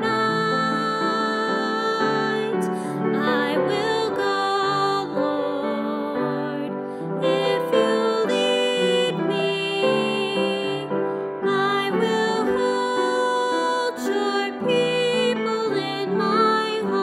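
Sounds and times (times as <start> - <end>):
soprano singing a hymn: 0.0 - 17.0
upright piano accompaniment: 0.0 - 17.0.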